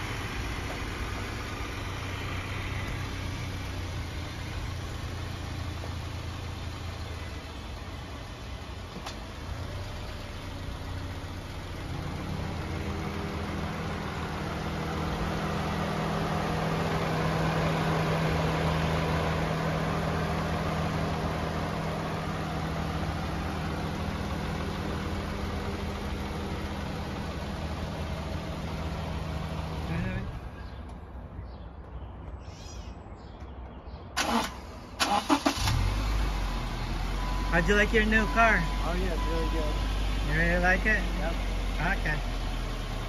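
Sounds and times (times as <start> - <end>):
car engine idling: 0.0 - 32.4, 33.6 - 43.0.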